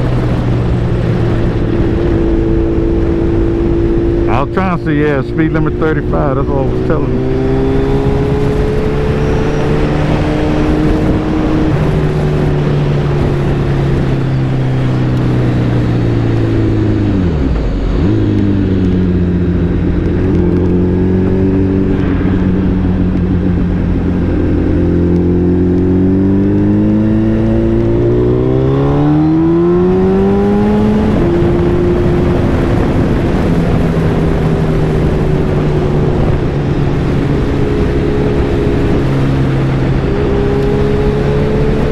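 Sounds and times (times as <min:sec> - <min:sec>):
motorcycle engine running: 0:00.0 - 0:41.9
wind noise: 0:00.0 - 0:41.9.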